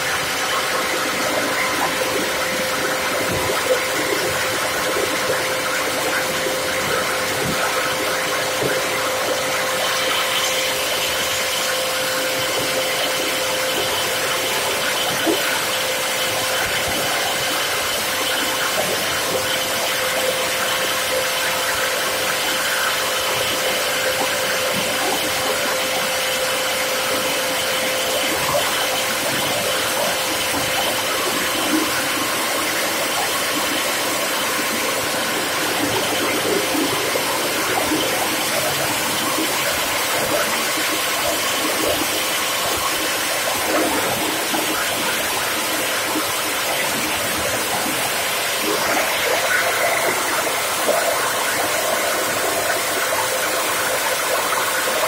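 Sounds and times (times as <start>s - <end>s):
plastic grinder machine running: 0.0s - 55.0s.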